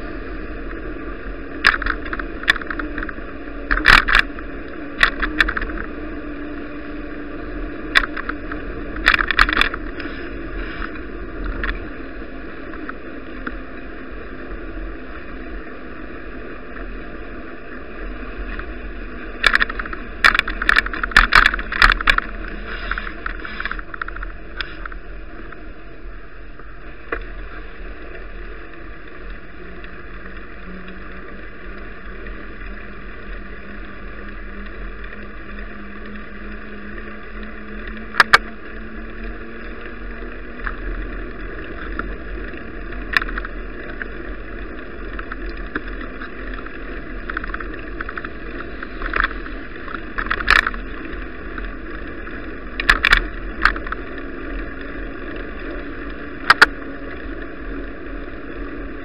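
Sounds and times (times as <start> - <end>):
bicycle tyres hissing on wet road: 0.0 - 59.0.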